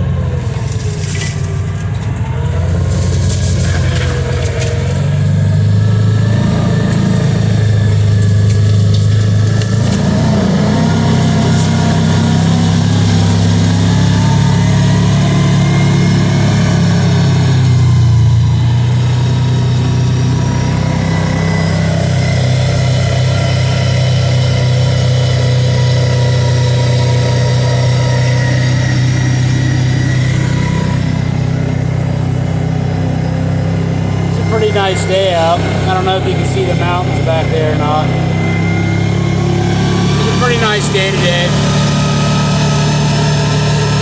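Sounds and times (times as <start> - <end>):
off-road vehicle engine running: 0.0 - 44.0.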